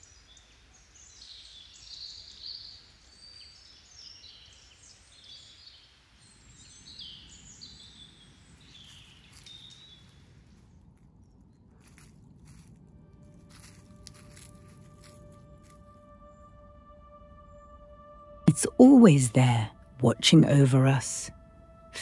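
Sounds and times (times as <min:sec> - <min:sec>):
low background hiss: 0:00.0 - 0:22.0
songbirds chirping: 0:00.0 - 0:22.0.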